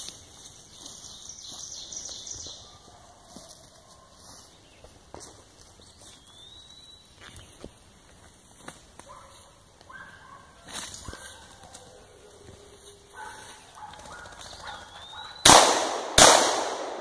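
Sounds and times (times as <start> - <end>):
birds calling: 0.0 - 8.0, 9.0 - 15.9
footsteps on leaf litter and twigs: 0.0 - 15.3.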